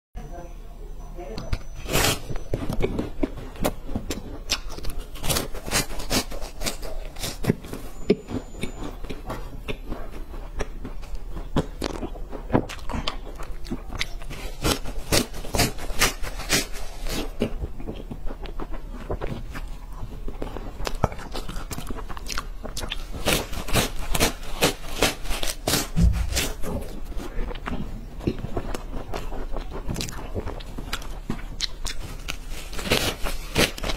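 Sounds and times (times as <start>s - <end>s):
crunchy biting and chewing: 1.4s - 33.9s.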